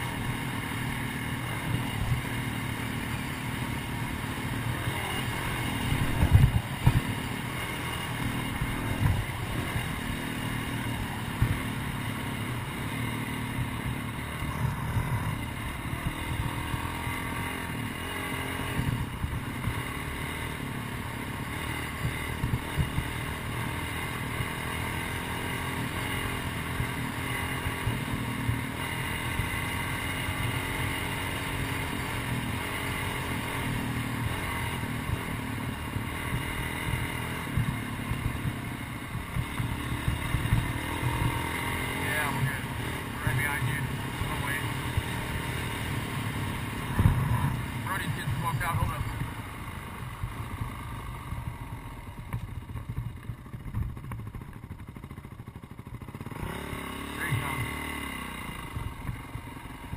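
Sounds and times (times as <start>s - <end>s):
motocross bike engine running: 0.0s - 59.9s.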